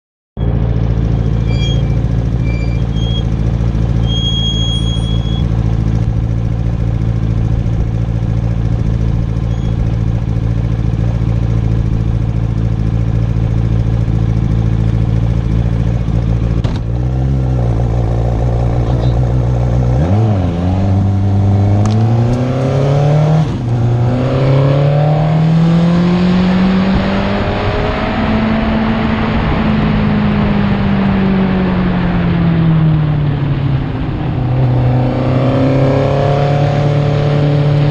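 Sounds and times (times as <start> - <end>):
engine idling and accelerating: 0.4 - 37.9.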